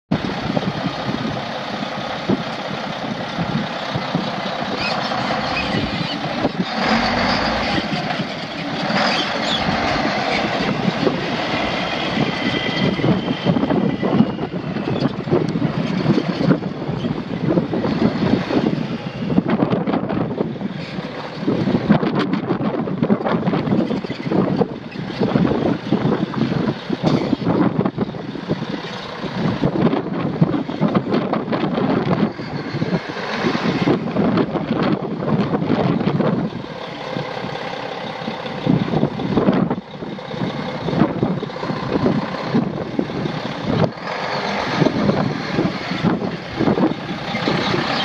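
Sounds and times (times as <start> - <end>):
diesel truck engine running: 0.1 - 48.0
wind buffeting microphone: 0.1 - 48.0.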